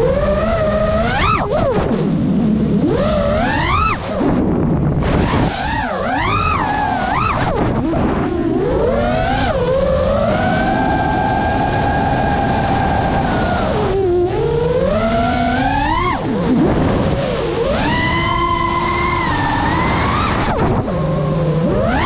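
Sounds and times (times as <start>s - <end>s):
drone motors whining: 0.0s - 22.0s
propeller and wind rush: 0.0s - 22.0s.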